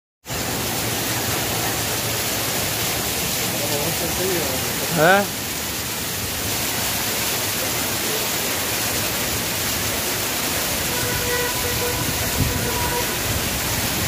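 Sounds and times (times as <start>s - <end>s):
heavy rain pouring: 0.3s - 14.0s.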